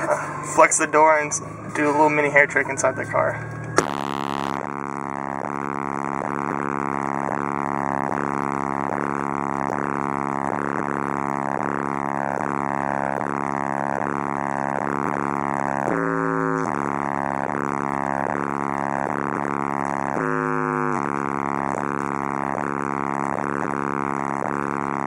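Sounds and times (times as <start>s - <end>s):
bass-heavy music: 0.0s - 25.0s.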